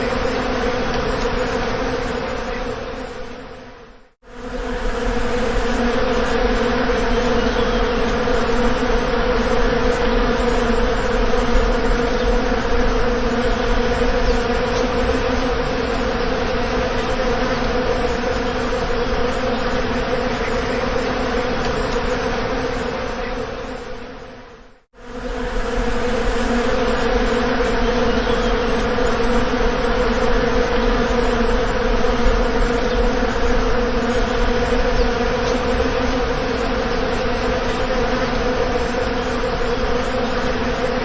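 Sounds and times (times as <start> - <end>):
bees buzzing: 4.3 - 41.0.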